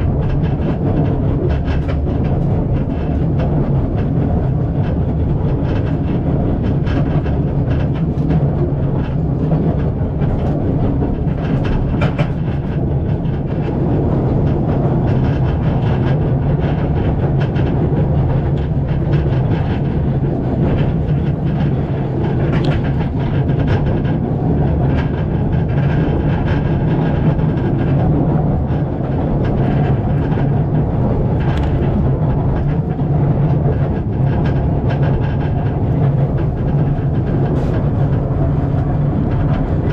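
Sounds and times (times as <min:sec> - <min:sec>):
train rumbling along track: 0:00.0 - 0:39.9
wheels clicking and rattling: 0:00.0 - 0:39.9.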